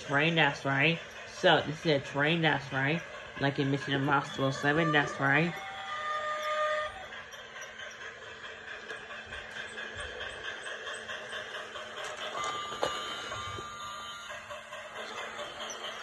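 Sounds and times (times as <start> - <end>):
toy train motor rattling hum: 0.0 - 16.0.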